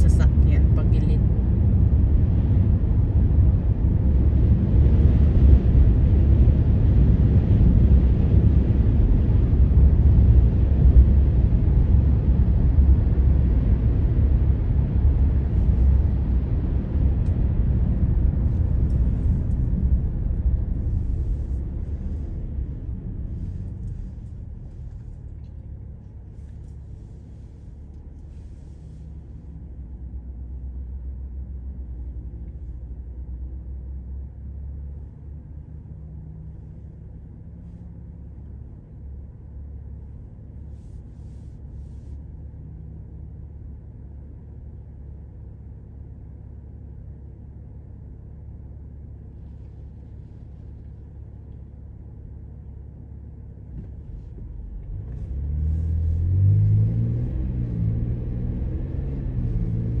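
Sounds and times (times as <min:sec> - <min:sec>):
car engine idling and accelerating: 0:00.0 - 1:00.0.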